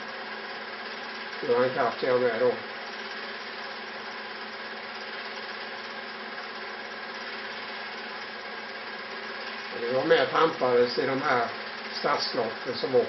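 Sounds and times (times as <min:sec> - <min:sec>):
film projector whirring: 0:00.0 - 0:13.0.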